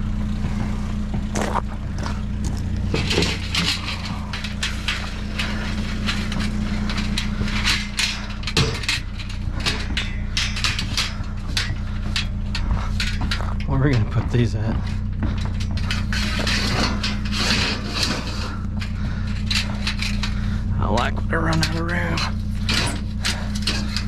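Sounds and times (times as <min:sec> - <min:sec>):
scrap metal knocks and clanks: 0:00.0 - 0:24.0
vehicle engine idling: 0:00.0 - 0:24.0.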